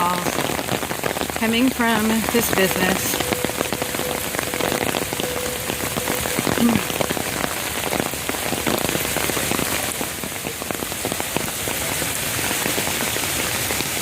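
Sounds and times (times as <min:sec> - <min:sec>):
runoff water rushing: 0:00.0 - 0:14.0
steady rain falling: 0:00.0 - 0:14.0.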